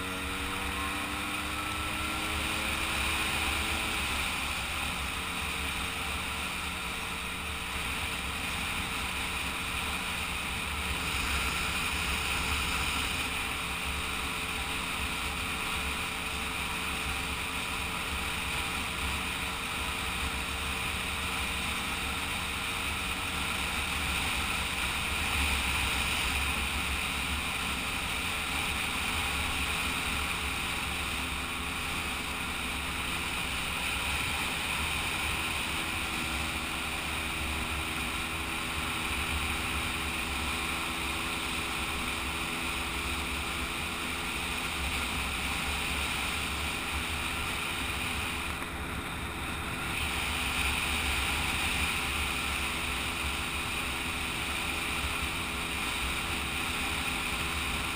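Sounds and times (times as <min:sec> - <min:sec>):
two-stroke moped engine running: 0:00.0 - 0:57.9.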